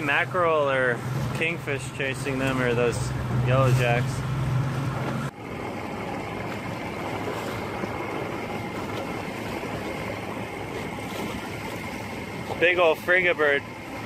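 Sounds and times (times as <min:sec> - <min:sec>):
deep boat engine hum: 0:00.0 - 0:14.0
water noise: 0:00.0 - 0:14.0
wind: 0:00.0 - 0:14.0.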